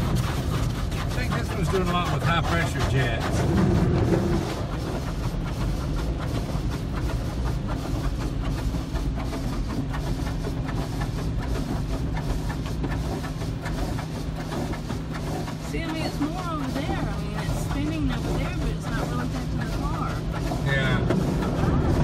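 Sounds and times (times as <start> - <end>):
steady low hum: 0.0 - 22.0
water jets spraying on a car: 0.0 - 22.0.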